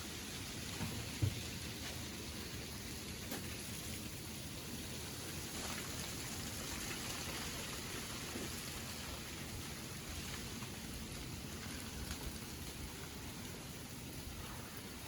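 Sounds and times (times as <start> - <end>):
freezing rain pattering on ice: 0.0 - 15.0.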